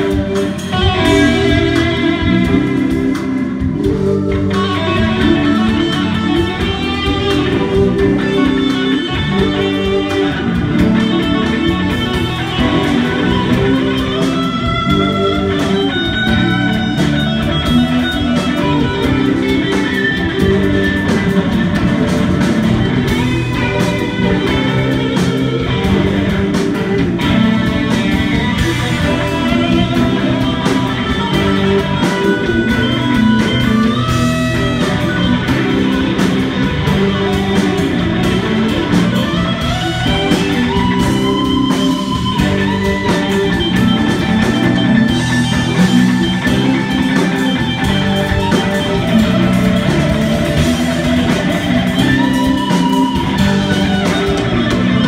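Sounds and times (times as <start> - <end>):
electric guitar lead line: 0.0 - 55.0
live rock band: 0.0 - 55.0.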